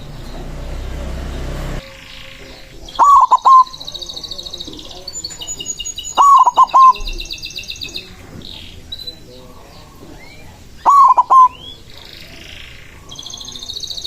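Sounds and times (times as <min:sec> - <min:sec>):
dove cooing: 0:00.0 - 0:14.0
fast high bird twittering: 0:00.0 - 0:14.0.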